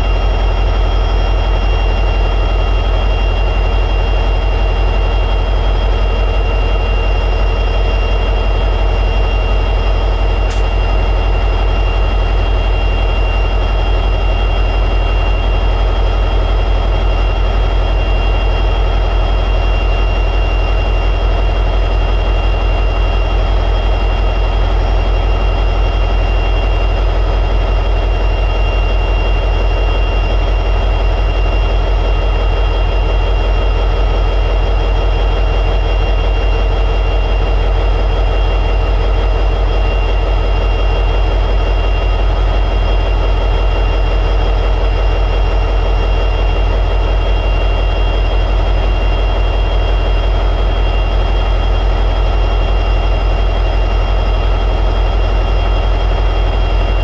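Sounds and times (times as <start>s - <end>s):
steady high whine: 0.0s - 57.0s.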